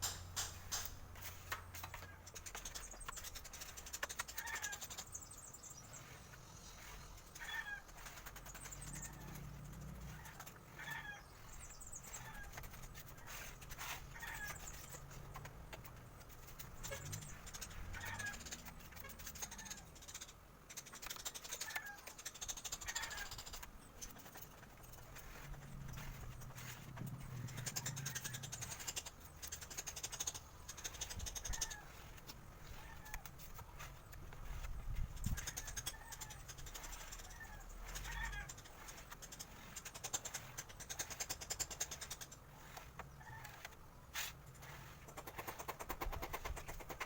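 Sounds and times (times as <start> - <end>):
bird chirping: 0.0 - 43.8.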